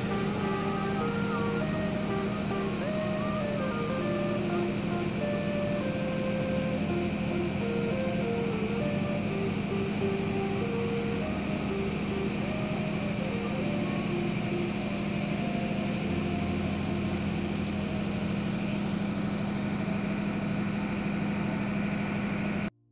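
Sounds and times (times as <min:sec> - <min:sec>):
boat engine running: 0:00.0 - 0:22.7.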